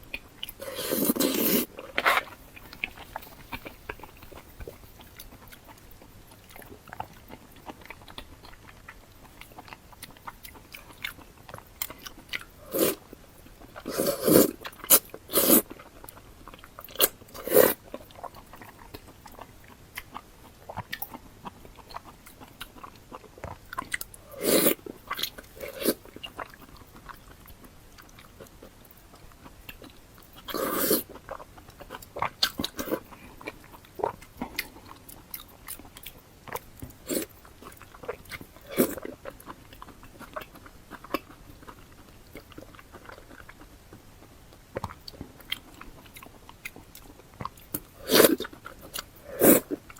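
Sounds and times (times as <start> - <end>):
quiet chewing: 0.0 - 49.9.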